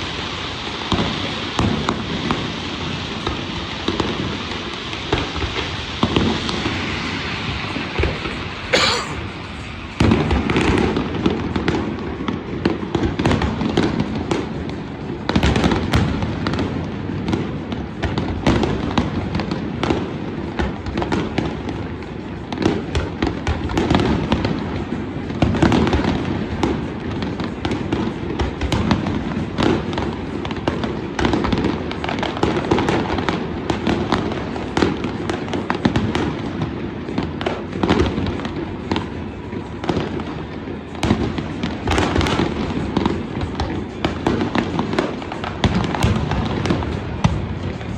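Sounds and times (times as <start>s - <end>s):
firework bangs and crackles: 0.0s - 47.9s.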